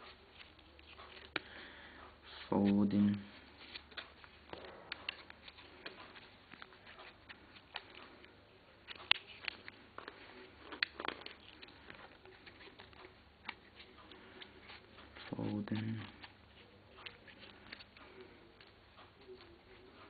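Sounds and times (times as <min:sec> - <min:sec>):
plastic sheet crackling and clicking: 0:02.8 - 0:20.0.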